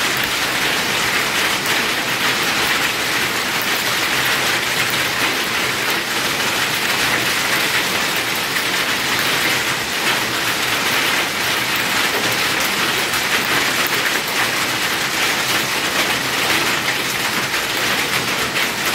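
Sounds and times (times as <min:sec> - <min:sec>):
rain and hail falling: 0:00.0 - 0:18.9.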